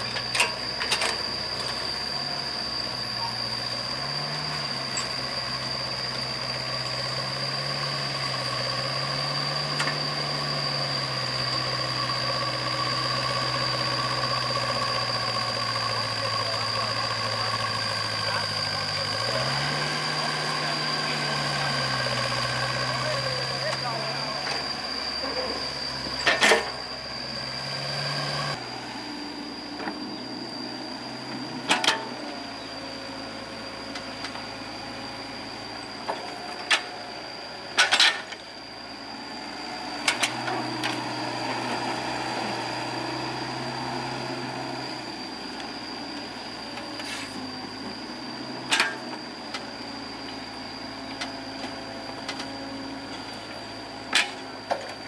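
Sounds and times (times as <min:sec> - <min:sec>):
diesel excavator engine running: 0:00.0 - 0:55.0
steady high whine: 0:00.0 - 0:55.0.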